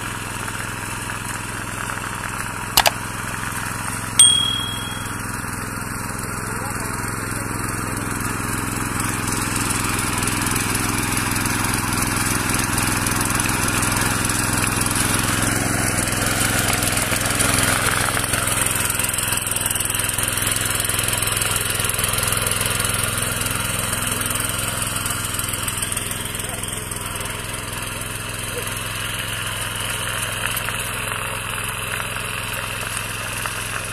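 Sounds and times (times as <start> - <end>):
small engine running: 5.8 - 33.9.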